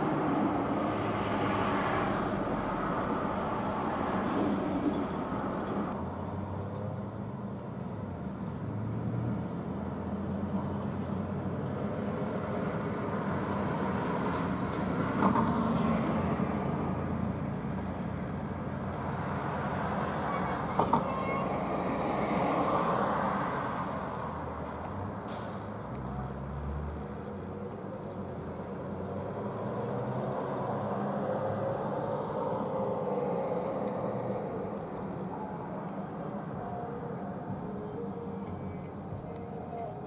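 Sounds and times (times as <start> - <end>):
traffic passing close by: 0.0 - 40.0.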